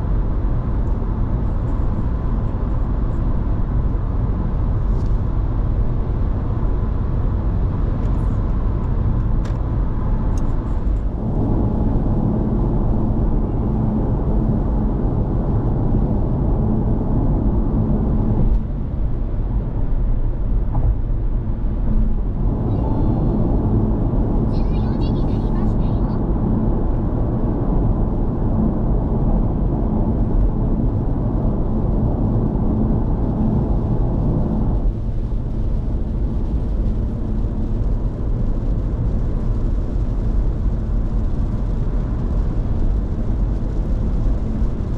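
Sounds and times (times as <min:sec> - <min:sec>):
road and tyre noise inside car: 0:00.0 - 0:44.9.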